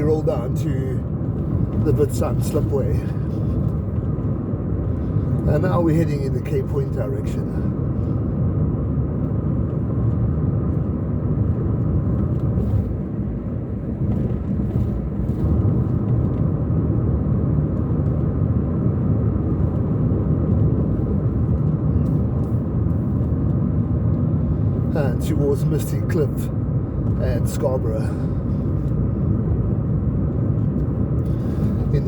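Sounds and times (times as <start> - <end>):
car interior road rumble: 0.0 - 32.0.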